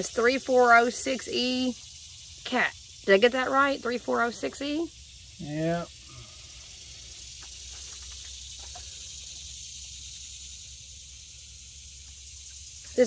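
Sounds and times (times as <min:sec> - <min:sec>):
insect chorus hiss: 0:00.0 - 0:13.0.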